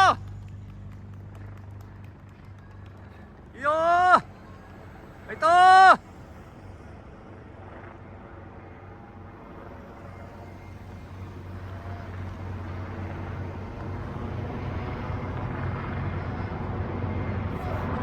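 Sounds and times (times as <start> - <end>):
vehicle engines approaching: 0.0 - 18.0.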